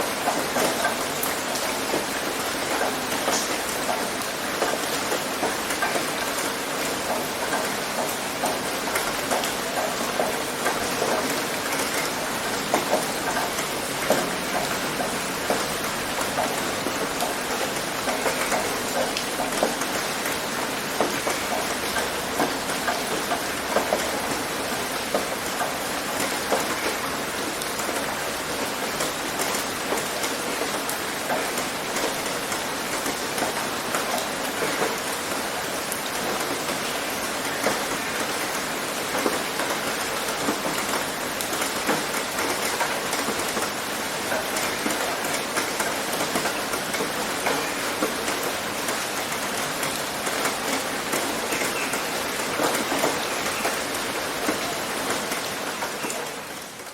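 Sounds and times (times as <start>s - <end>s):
rain on a tin roof: 0.0s - 56.9s.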